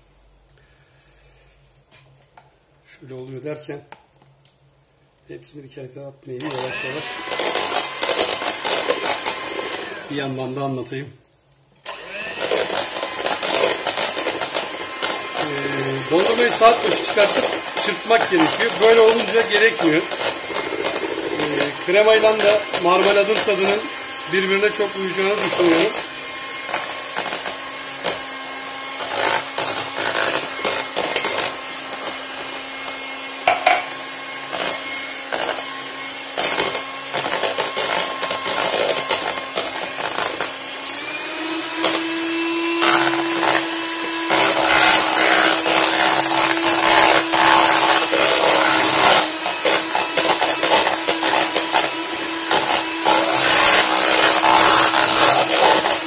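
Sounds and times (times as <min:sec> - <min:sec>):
electric hand mixer running: 0:06.4 - 0:10.8, 0:11.8 - 0:56.0.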